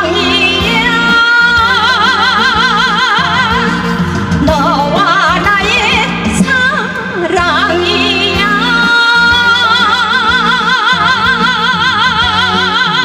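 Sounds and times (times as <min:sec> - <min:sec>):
woman singing over backing track: 0:00.0 - 0:13.0.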